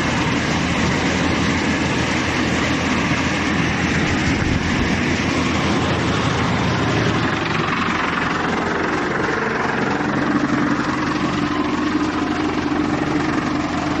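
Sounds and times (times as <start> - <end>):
dense mechanical noise: 0.0 - 14.0
wood chipper engine hum: 0.0 - 14.0.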